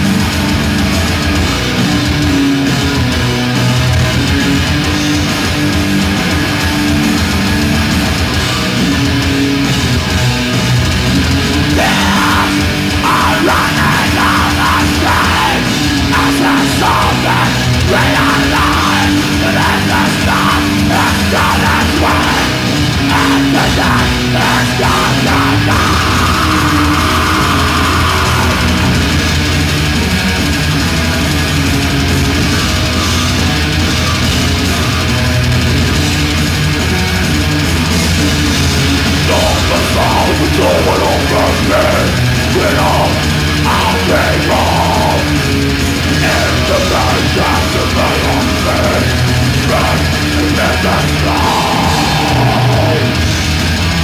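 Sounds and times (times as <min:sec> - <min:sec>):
fast driving drums: 0:00.0 - 0:54.0
heavy distorted guitars: 0:00.0 - 0:54.0.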